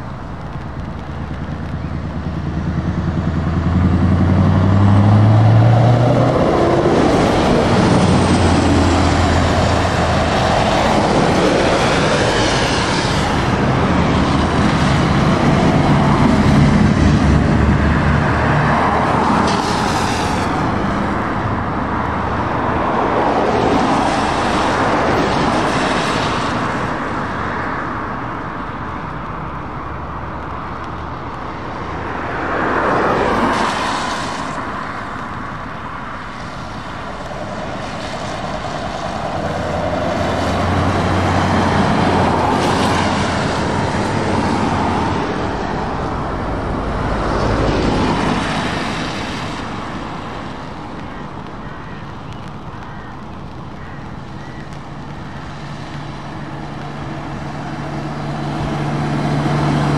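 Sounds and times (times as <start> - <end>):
cars passing on wet road: 0.0 - 59.9
tyres hissing on wet road: 0.0 - 59.9.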